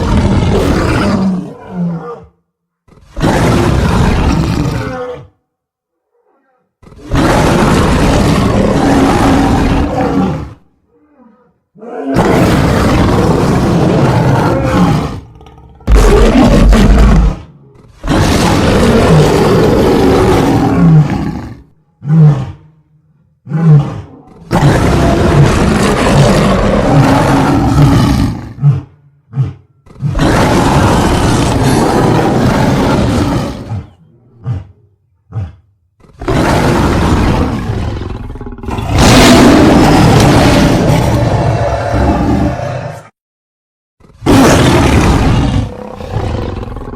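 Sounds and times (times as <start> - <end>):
lion roaring: 0.0 - 5.4, 6.0 - 43.2, 44.0 - 46.9.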